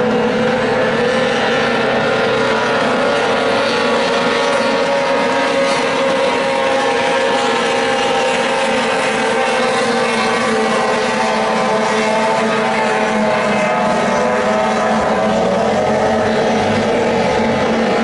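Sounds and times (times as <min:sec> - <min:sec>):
outboard engines droning: 0:00.0 - 0:18.0.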